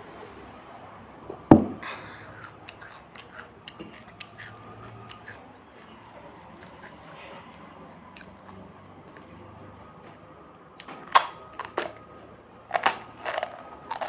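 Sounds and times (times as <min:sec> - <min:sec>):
chewing crisp food: 0:01.9 - 0:14.0.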